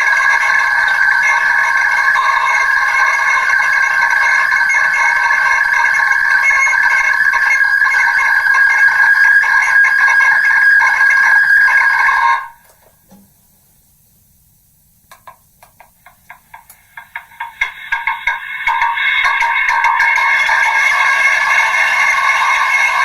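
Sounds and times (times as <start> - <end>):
fluttering ringing tone from megaphone: 0.0 - 12.6, 17.1 - 23.0.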